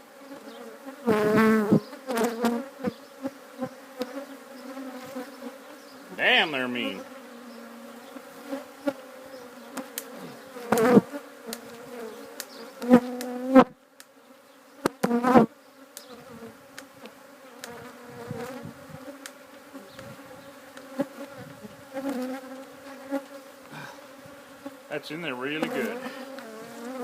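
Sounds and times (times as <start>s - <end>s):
bees buzzing: 0.1s - 13.6s, 15.0s - 27.0s.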